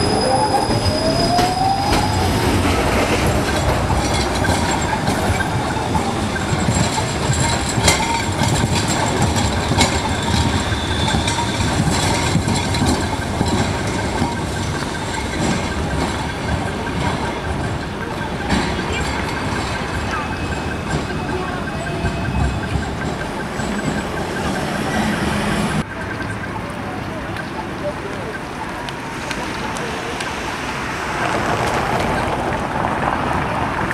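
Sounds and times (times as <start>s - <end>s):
tram wheels rumbling on rails: 0.0s - 33.9s.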